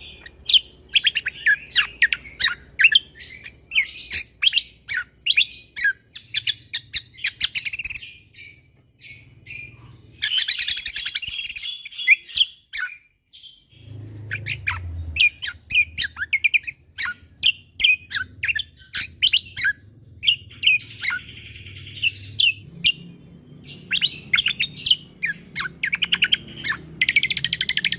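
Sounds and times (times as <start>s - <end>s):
songbird singing: 0.0s - 27.9s.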